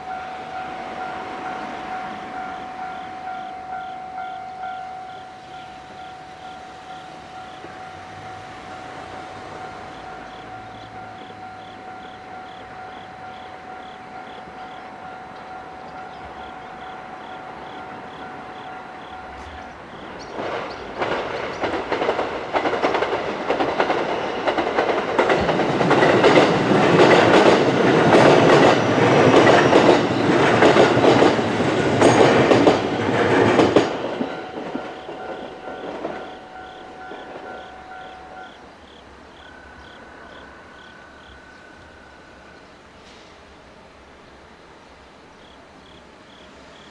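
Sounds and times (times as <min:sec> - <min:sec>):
wheels clacking over rail joints: 0:00.0 - 0:42.1
crossing warning bell ringing: 0:00.0 - 0:43.0
electric train passing: 0:00.0 - 0:46.9.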